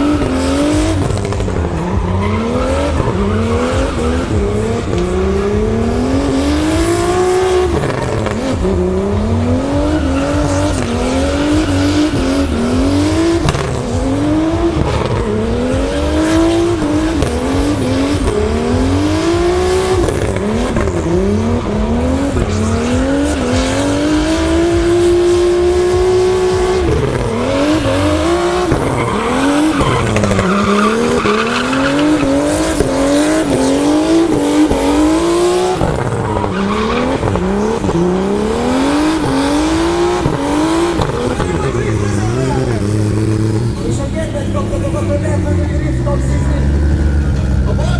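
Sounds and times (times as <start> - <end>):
car engine revving: 0.0 - 47.9
tyres squealing: 0.0 - 47.9.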